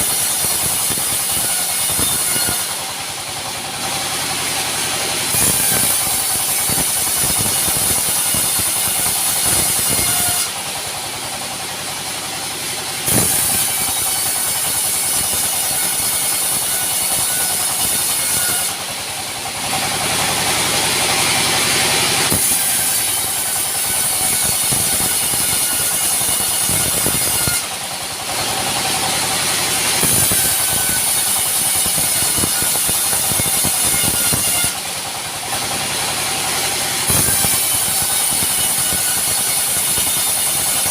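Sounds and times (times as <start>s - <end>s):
sawmill saw drone and whine: 0.0s - 40.9s.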